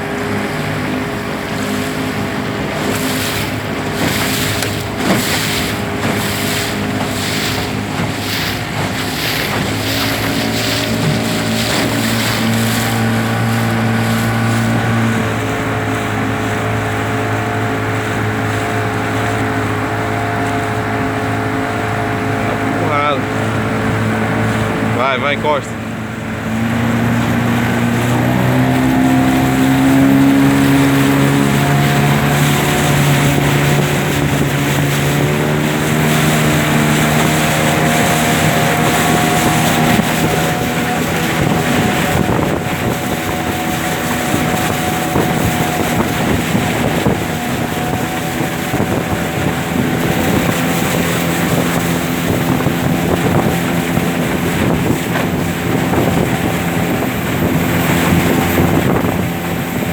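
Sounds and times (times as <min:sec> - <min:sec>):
motorboat engines droning: 0:00.0 - 0:59.9
wind buffeting microphone: 0:00.0 - 0:59.9.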